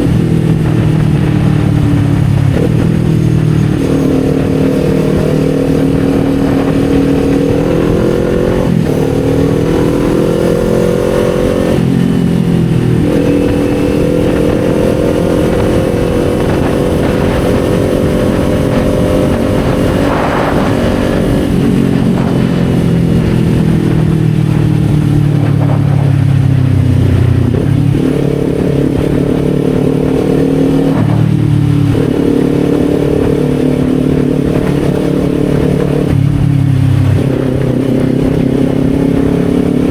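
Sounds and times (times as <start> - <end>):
motorcycle engine shifting gears: 0.0 - 39.9
wind noise: 0.0 - 39.9.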